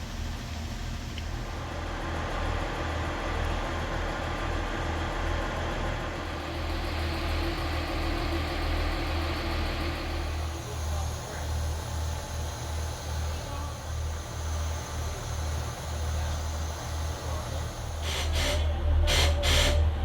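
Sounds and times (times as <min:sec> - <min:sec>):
engine running with low rumble: 0:00.0 - 0:20.0.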